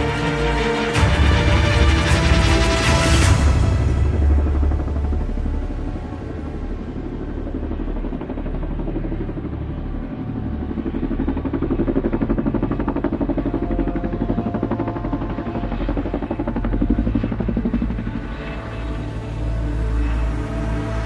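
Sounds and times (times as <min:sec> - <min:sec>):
low pulsing mechanical drone: 0:00.0 - 0:21.0.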